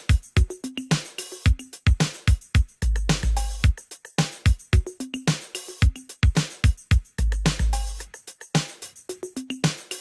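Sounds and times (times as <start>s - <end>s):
drum machine beat: 0.0s - 10.0s.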